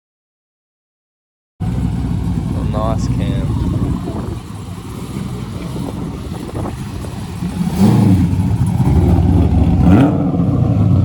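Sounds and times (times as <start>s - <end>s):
car engine revving: 1.6s - 11.0s.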